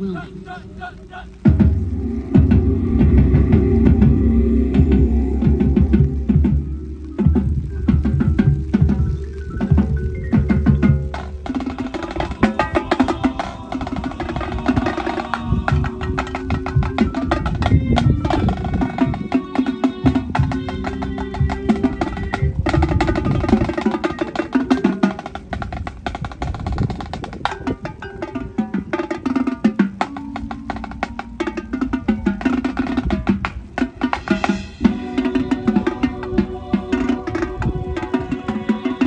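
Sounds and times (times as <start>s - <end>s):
marching band playing: 0.2s - 39.0s
drums and percussion hits: 1.4s - 39.0s.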